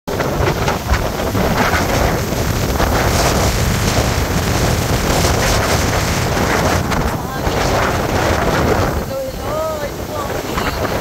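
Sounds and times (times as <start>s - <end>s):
strong wind buffeting microphone: 0.1s - 11.0s.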